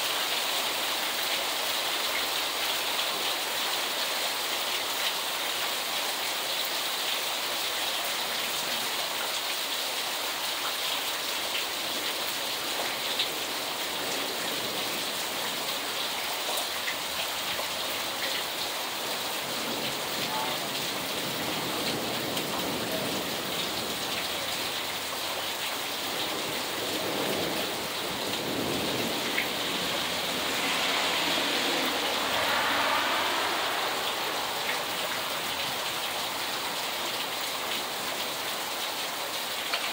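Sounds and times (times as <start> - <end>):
heavy rain on water: 0.0 - 39.9.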